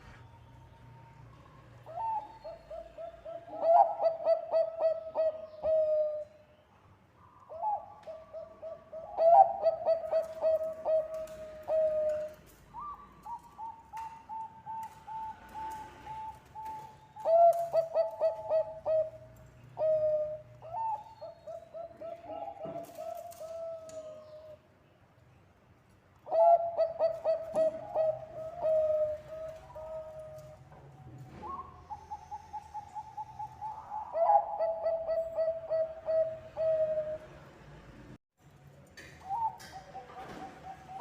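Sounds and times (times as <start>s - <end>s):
dove cooing: 1.8s - 6.3s, 7.5s - 24.6s, 26.2s - 30.6s, 31.3s - 37.4s, 39.3s - 41.0s.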